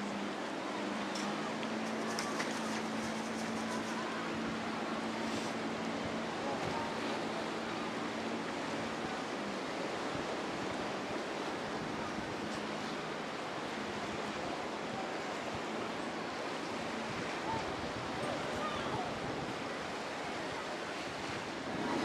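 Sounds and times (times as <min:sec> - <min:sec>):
outboard motor humming: 0:00.0 - 0:22.0
surf and breaking waves: 0:00.0 - 0:22.0.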